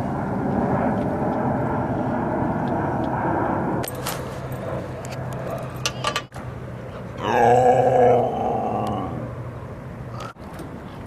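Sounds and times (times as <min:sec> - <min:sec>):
rumbling outdoor background noise: 0:00.0 - 0:11.0.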